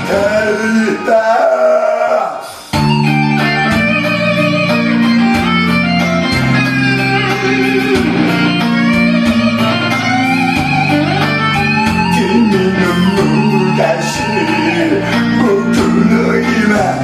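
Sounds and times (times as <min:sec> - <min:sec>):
instrumental guitar and bass music: 0:00.0 - 0:01.4, 0:02.7 - 0:17.0.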